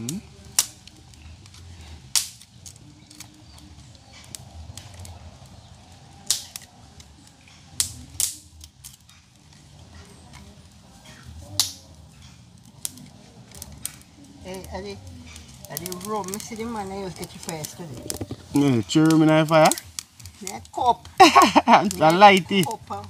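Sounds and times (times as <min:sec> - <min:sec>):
fire popping sharply: 0:00.0 - 0:23.0
wood fire crackling: 0:00.0 - 0:23.0.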